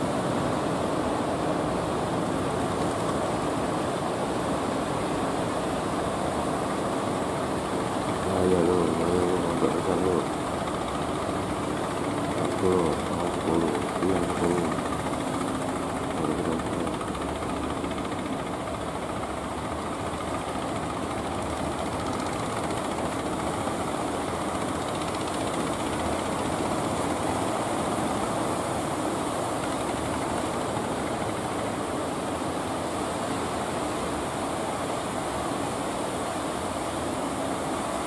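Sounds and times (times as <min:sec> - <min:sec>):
boat engine droning: 0:00.0 - 0:38.0.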